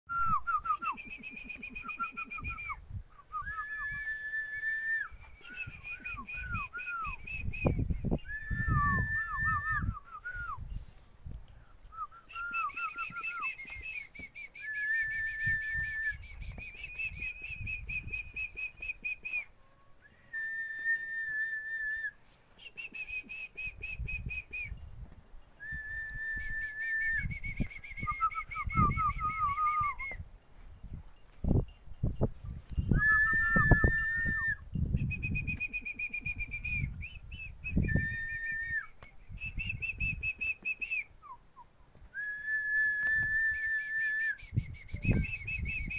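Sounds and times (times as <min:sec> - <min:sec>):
tuneful whistling: 0:00.1 - 0:10.8, 0:11.8 - 0:25.0, 0:25.6 - 0:30.3, 0:32.7 - 0:45.9.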